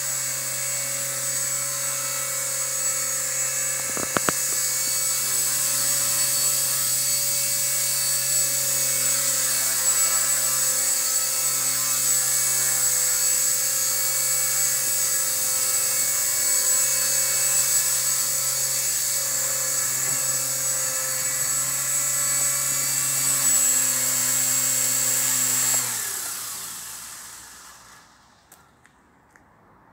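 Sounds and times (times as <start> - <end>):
rc helicopter motor whine: 0.0 - 28.6
rotor blades buzzing: 0.1 - 28.4.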